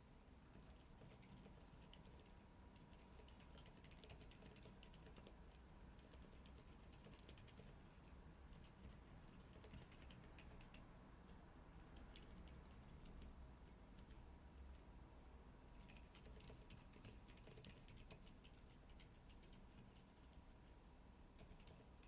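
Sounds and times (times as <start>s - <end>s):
muted keyboard typing: 0.6s - 10.9s, 11.8s - 14.2s, 15.8s - 20.4s, 21.3s - 22.0s.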